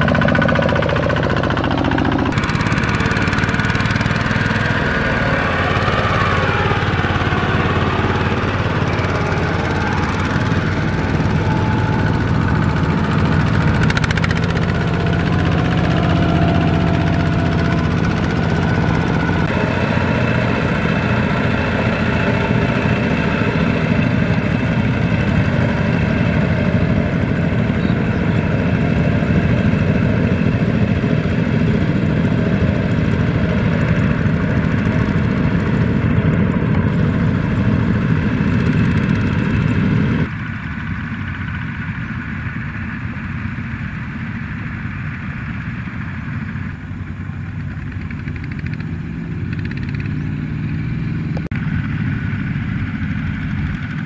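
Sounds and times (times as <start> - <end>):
diesel tractor engines running: 0.0 - 54.0.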